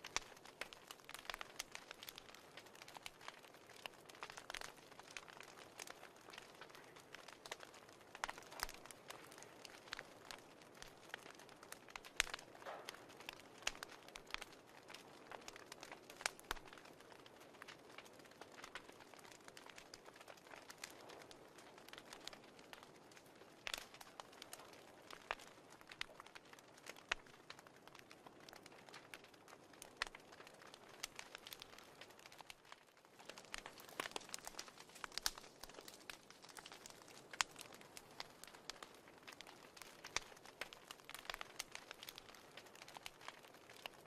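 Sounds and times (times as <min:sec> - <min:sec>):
fireplace crackling: 0:00.0 - 0:44.0
soft steady hiss: 0:00.0 - 0:44.0.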